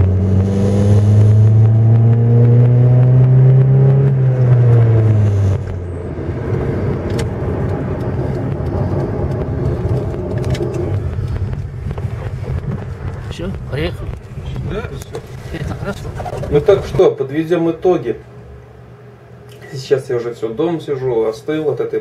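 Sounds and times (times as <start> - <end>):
car engine droning: 0.0 - 19.4
road noise: 0.0 - 22.0.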